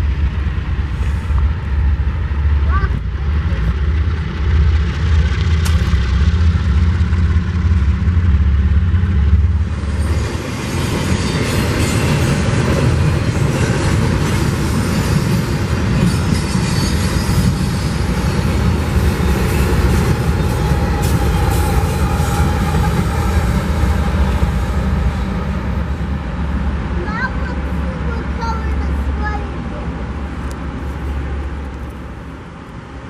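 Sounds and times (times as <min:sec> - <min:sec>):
diesel locomotive rumble: 0:00.0 - 0:33.0
freight train rolling past: 0:00.0 - 0:33.0.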